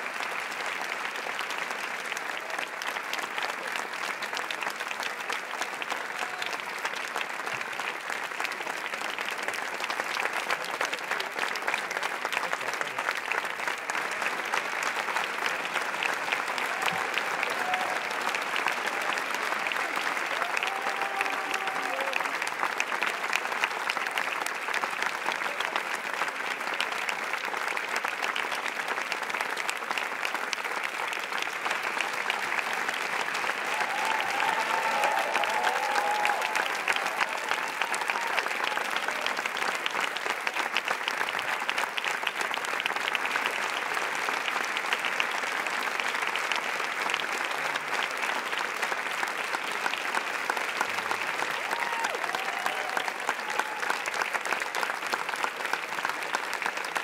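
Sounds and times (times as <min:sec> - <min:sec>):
audience clapping: 0:00.0 - 0:57.0.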